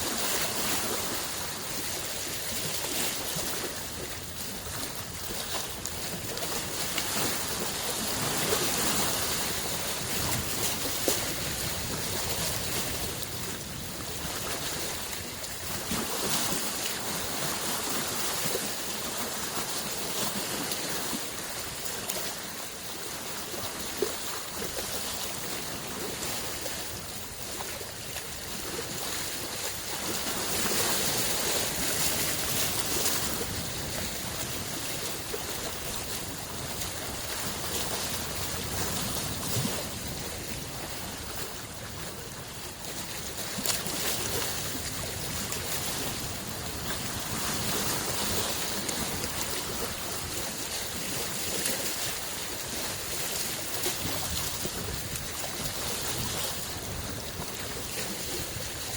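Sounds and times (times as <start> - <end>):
lake waves washing on shore: 0.0 - 58.9.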